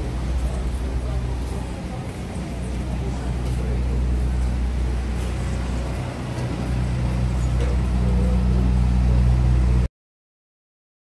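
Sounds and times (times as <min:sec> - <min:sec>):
vehicle engine humming: 0:00.0 - 0:09.9.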